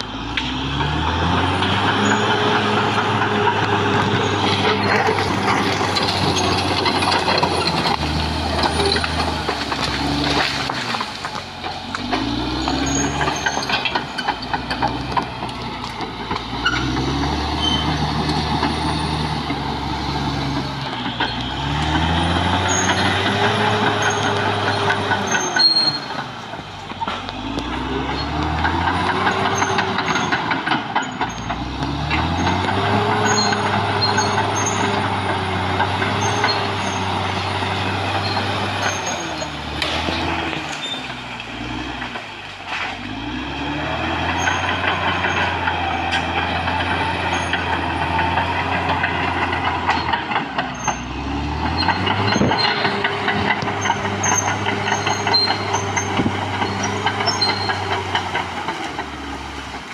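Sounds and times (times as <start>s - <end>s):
bulldozer diesel engine: 0.0s - 59.9s
bulldozer pushing into brush: 0.0s - 59.9s.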